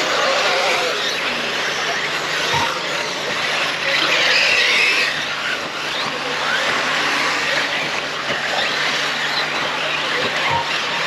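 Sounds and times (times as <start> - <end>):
electric motors whining: 0.0 - 11.0
tyres on dirt: 0.0 - 11.0.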